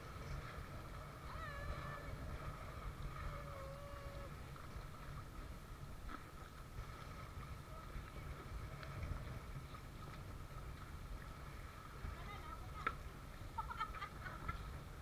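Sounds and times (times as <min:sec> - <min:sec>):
thin steady hum: 0:00.0 - 0:15.0.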